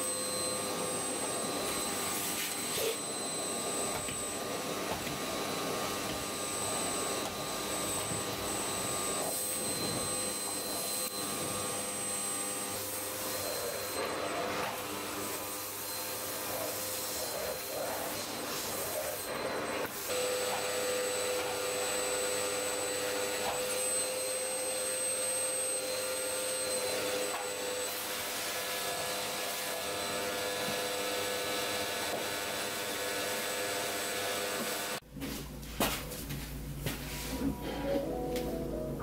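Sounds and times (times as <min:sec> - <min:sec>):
vacuum cleaner running: 0:00.0 - 0:35.1.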